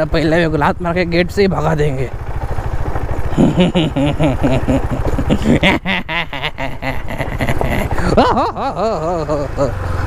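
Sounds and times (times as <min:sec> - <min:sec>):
motorcycle engine pulsing: 0:00.0 - 0:10.0.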